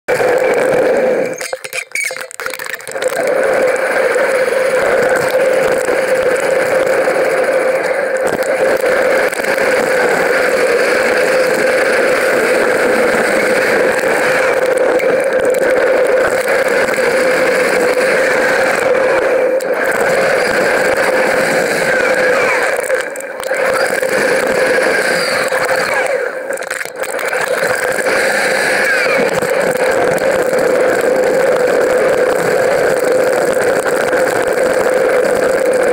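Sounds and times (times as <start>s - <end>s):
bike tyres rolling: 0.1s - 35.9s
constant hum: 0.1s - 35.9s.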